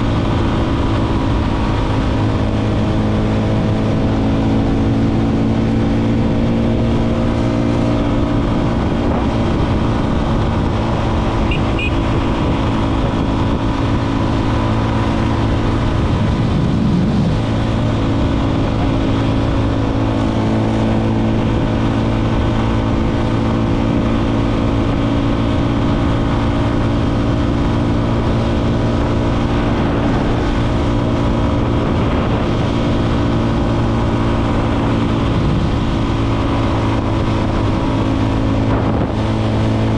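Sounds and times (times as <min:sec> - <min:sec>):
motorcycle engine running: 0:00.0 - 0:39.9
rushing wind: 0:00.0 - 0:39.9.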